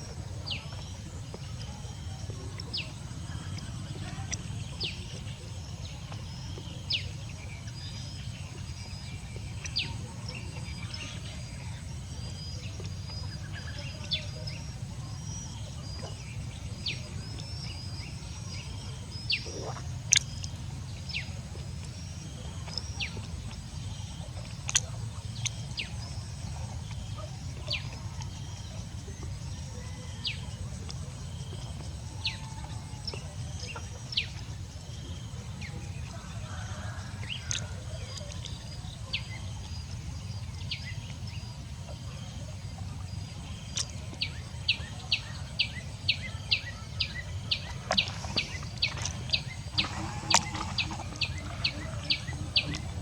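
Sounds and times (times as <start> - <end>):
birds chirping: 0.0 - 53.0
steady low hum: 0.0 - 53.0.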